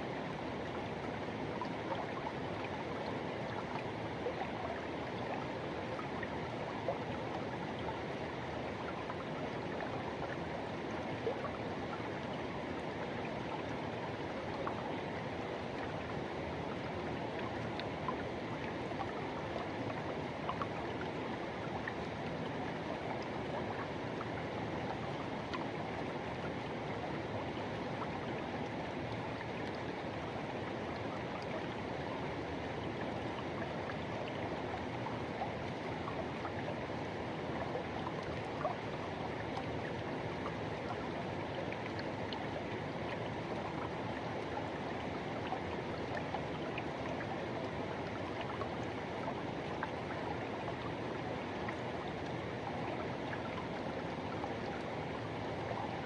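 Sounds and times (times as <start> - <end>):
river water rushing: 10.7 - 56.0.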